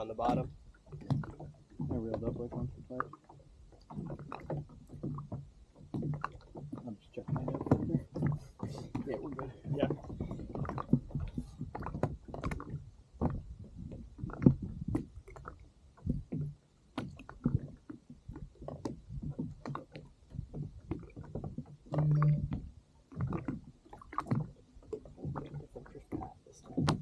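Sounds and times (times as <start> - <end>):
water slapping against kayak hull: 0.0 - 27.0.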